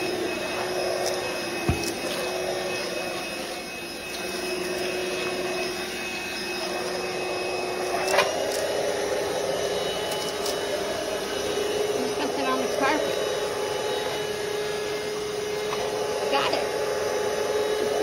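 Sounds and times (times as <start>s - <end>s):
stick vacuum running: 0.0s - 18.0s.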